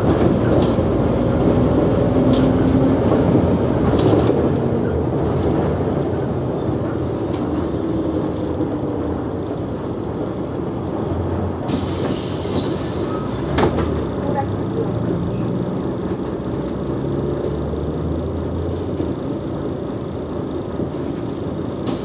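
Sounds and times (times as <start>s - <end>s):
bus diesel engine idling: 0.0s - 22.0s.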